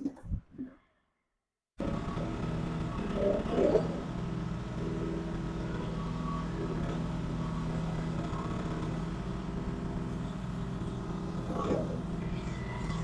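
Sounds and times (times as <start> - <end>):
diesel engine running steadily: 1.8 - 13.0.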